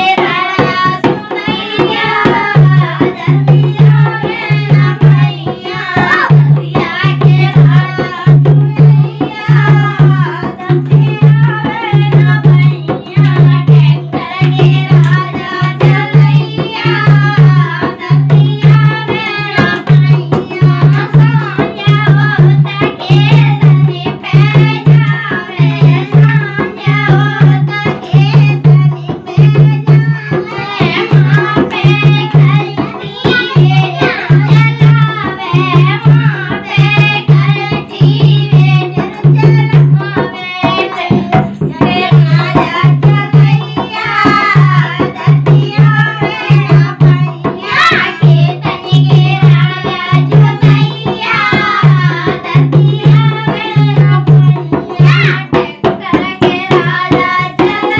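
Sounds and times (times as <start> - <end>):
person singing folk song: 0.0 - 57.9
steady drum beat: 0.0 - 57.9.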